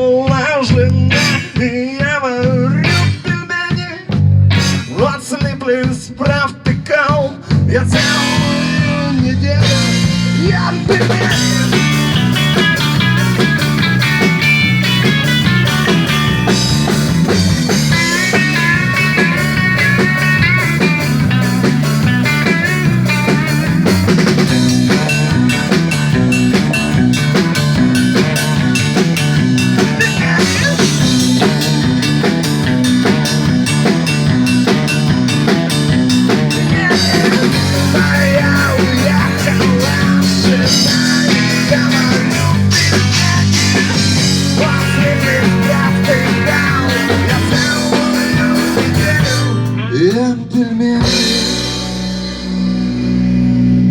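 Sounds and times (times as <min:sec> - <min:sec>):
bass guitar: 0:00.0 - 0:53.9
drum kit: 0:00.0 - 0:53.9
electric guitar: 0:00.0 - 0:53.9.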